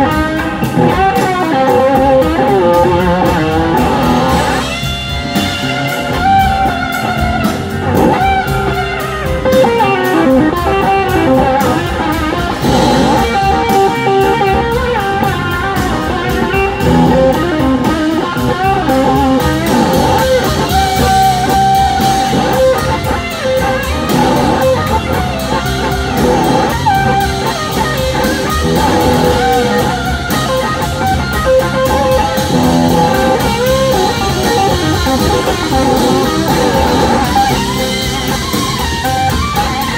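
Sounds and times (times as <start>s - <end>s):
blues-rock band playing: 0.0s - 39.9s
drum kit: 0.0s - 39.9s
electric guitar lines: 0.0s - 39.9s.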